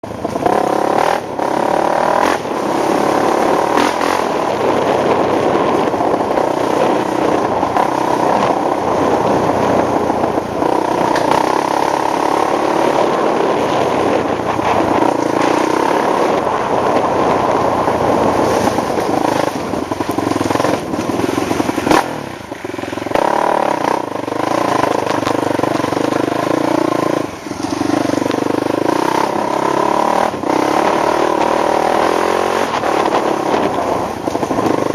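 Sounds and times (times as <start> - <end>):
atv engine under changing throttle: 0.0 - 34.9.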